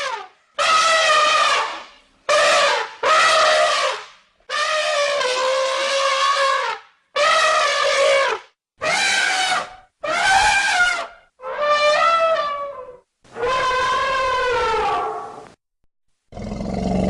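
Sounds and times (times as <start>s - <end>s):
elephant trumpeting: 0.0s - 15.4s.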